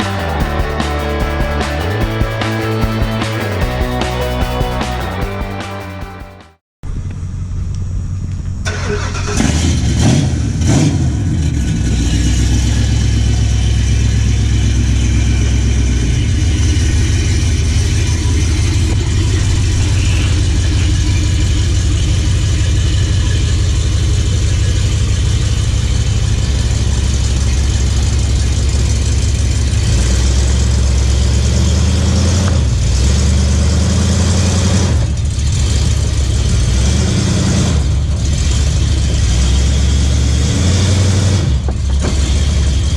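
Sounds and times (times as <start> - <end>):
truck engine revving and rumbling: 0.0 - 6.0, 6.9 - 42.9.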